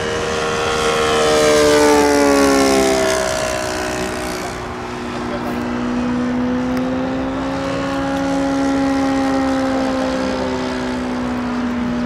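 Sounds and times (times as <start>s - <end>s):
model airplane propeller droning: 0.0s - 12.0s.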